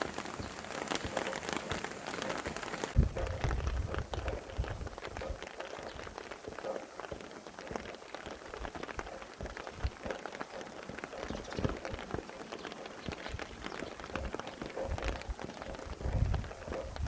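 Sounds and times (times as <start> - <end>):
rain falling: 0.0 - 17.0
raindrops striking close by: 0.0 - 17.0.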